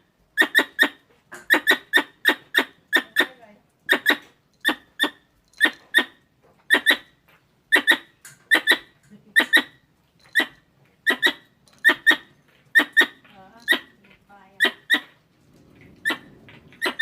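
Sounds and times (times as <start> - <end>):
squirrel chirping: 0.4 - 7.1, 7.7 - 15.2, 16.0 - 17.0.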